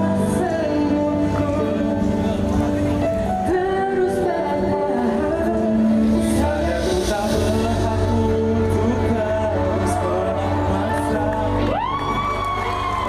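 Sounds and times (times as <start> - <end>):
band playing pop music: 0.0 - 13.0
person singing: 0.0 - 13.0.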